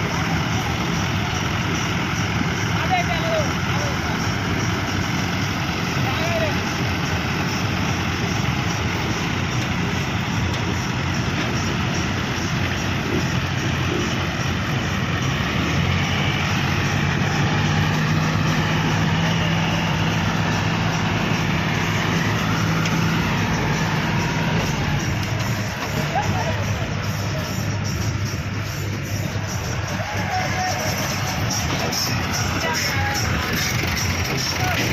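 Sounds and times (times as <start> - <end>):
tractor diesel engines running: 0.0 - 34.9.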